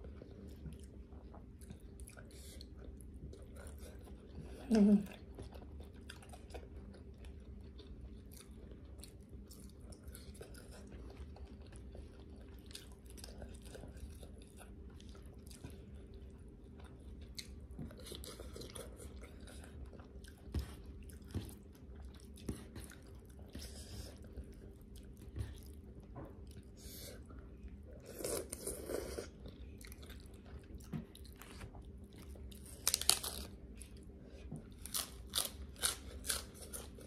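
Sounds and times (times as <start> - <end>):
close-up chewing: 0.0 - 37.0.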